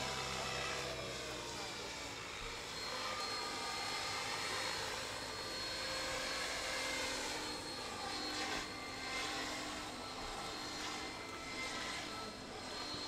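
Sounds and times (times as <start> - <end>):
model helicopter high whine: 0.0 - 13.0.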